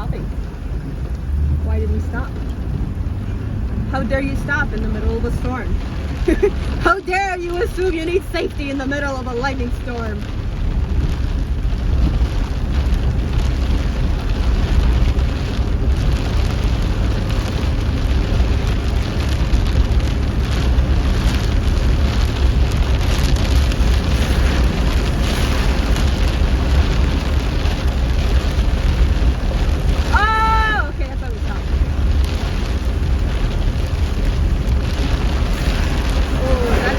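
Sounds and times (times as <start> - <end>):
car cabin rumble: 0.0 - 36.9
rain hiss: 0.0 - 36.9.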